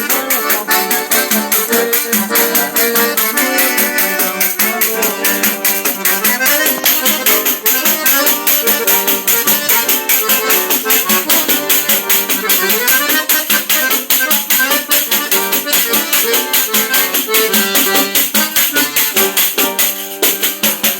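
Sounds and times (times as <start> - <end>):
accordion playing: 0.0 - 20.9
pandeiro jingles: 0.0 - 20.9.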